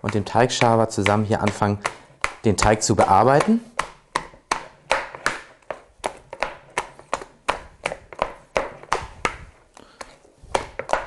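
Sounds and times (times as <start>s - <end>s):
wet slaps of dough beaten: 0.0s - 11.0s.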